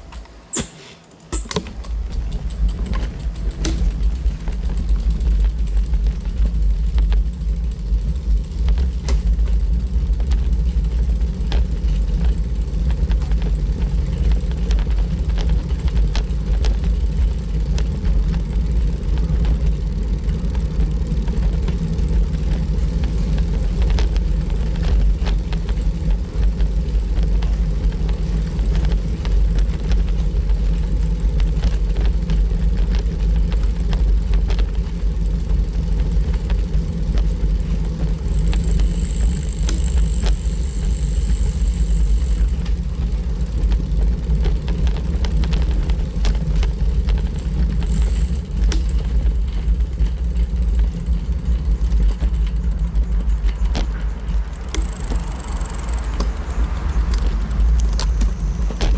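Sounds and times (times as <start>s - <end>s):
bicycle rattling over stone paving: 0.0s - 58.9s
wind rumble on microphone: 1.9s - 58.9s.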